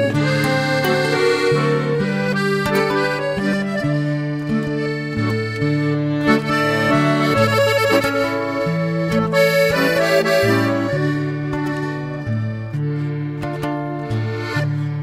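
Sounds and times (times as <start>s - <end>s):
accordion playing chords: 0.0s - 15.0s.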